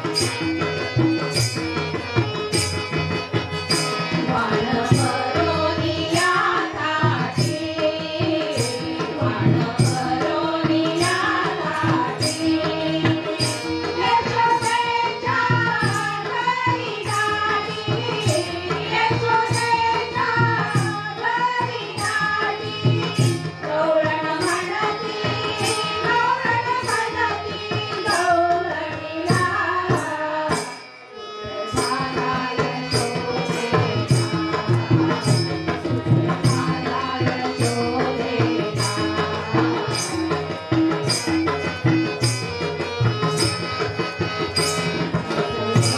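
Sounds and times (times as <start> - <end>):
steady percussion beat: 0.0 - 28.6, 31.6 - 45.9.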